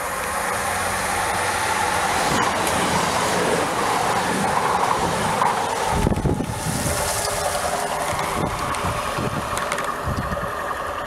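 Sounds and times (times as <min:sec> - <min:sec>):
diesel train passing at speed: 0:00.0 - 0:11.0.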